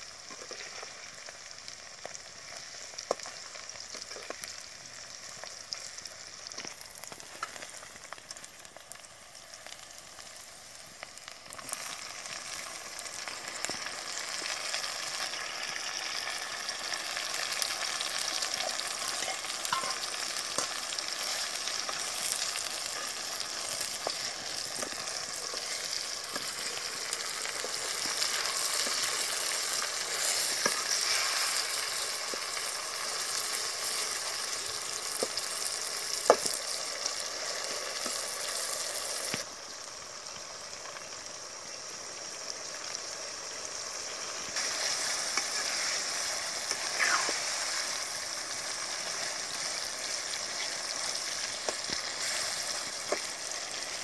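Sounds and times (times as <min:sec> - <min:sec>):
oil sizzling in a pan: 0:00.0 - 0:54.0.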